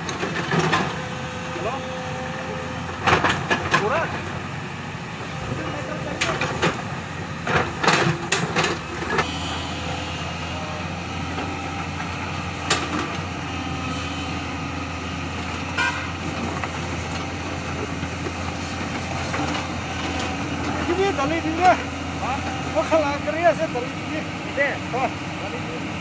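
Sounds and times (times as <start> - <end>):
diesel machinery running: 0.0 - 26.0.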